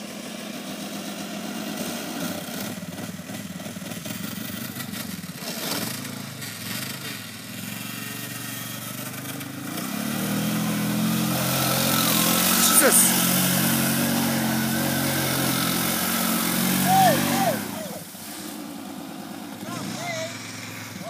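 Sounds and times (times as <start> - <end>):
quad engine revving: 0.0 - 21.0.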